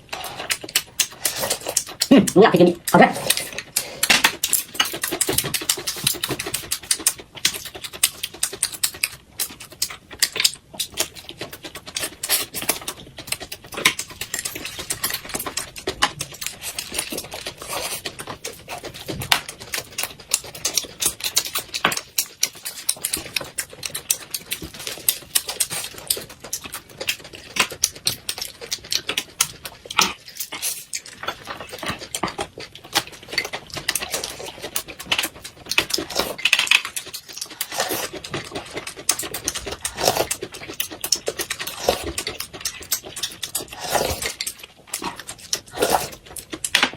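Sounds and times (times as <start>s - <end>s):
person chewing and lip-smacking: 0.0s - 46.9s.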